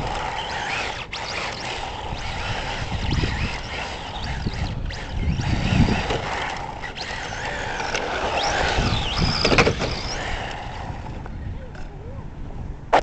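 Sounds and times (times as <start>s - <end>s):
electric motor and gears whining: 0.0s - 11.9s.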